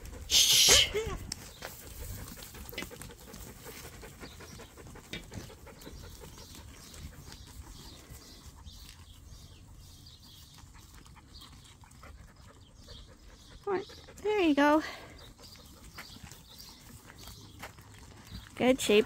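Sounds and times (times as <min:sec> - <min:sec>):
dog panting: 0:01.4 - 0:18.5.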